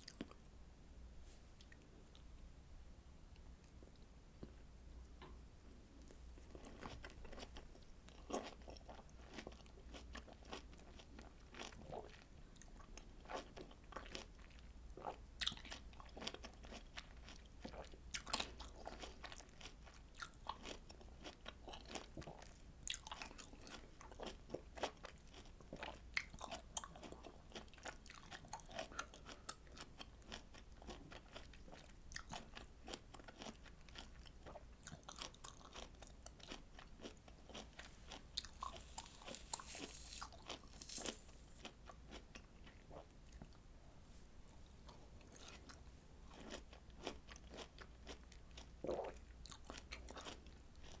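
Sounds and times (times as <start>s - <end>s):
chewing and biting fruit: 6.5s - 43.6s, 44.9s - 51.0s.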